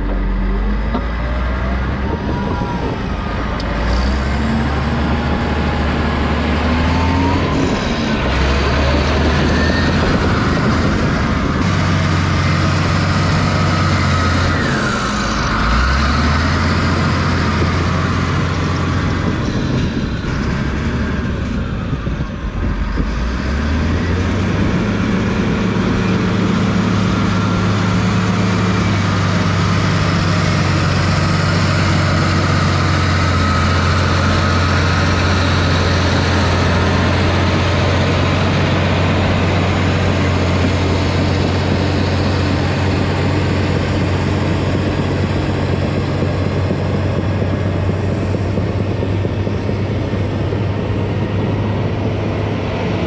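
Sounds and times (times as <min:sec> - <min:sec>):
dozer diesel engine under load: 0:00.0 - 0:53.0.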